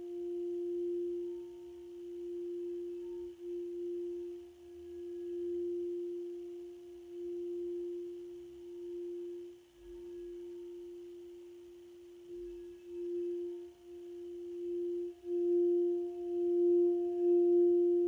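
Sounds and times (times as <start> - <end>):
singing bowl tone: 0.0 - 18.0.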